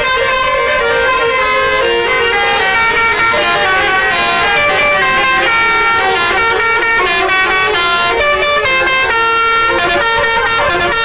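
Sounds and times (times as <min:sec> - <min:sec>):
bus multi-tone air horn melody: 0:00.0 - 0:11.0.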